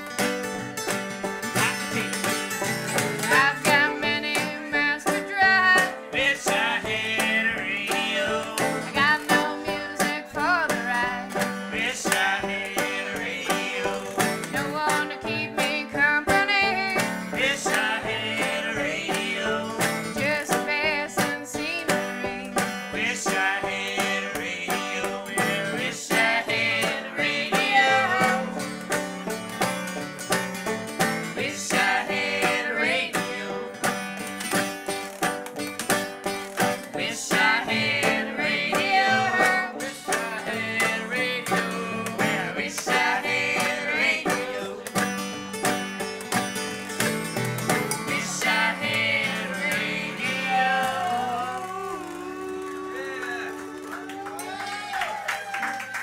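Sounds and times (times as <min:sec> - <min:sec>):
bluegrass string band playing: 0:00.0 - 0:53.1.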